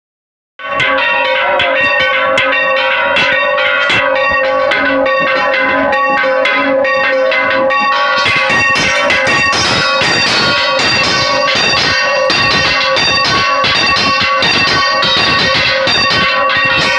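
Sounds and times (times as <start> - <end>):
large church bell ringing: 0.6 - 16.9.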